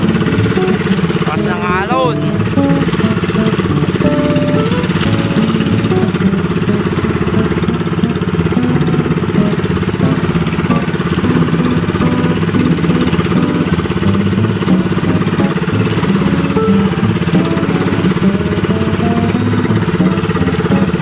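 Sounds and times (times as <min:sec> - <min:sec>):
small boat engine running: 0:00.0 - 0:21.0.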